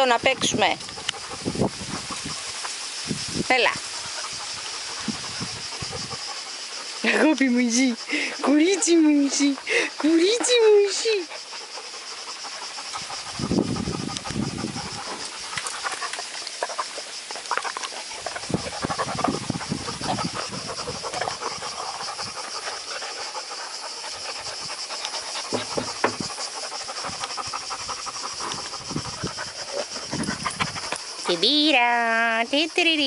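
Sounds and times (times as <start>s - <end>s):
dog panting: 0.0s - 31.7s
steady high-pitched hiss: 0.0s - 33.0s.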